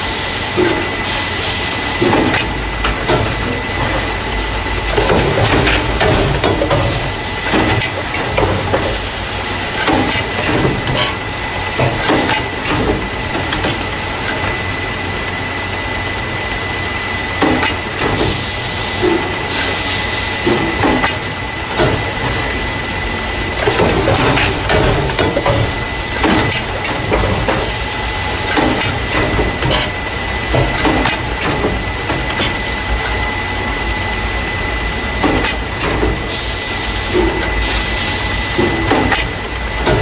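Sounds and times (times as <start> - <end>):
machine hissing: 0.0 - 40.0.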